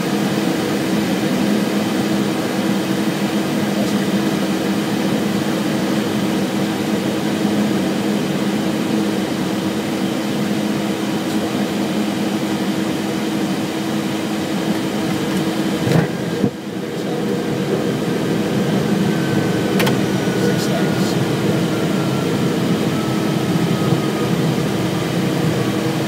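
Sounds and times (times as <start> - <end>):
jet engines humming: 0.0 - 26.0.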